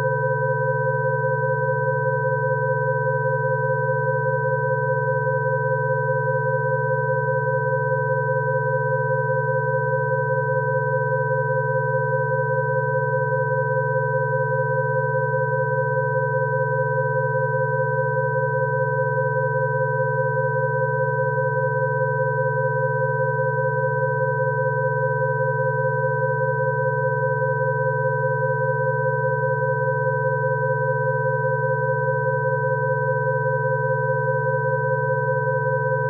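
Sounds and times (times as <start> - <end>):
steady electronic sine tones: 0.0 - 36.0.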